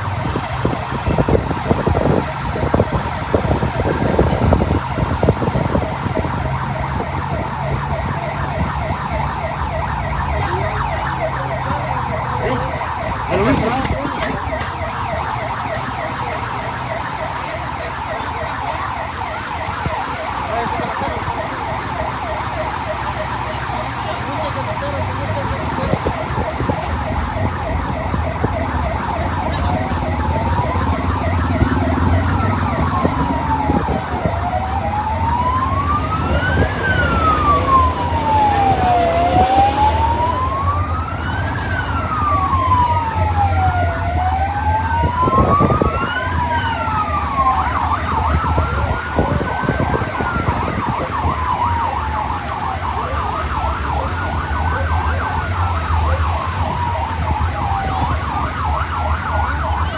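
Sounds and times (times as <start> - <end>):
siren wailing: 0.0 - 59.9.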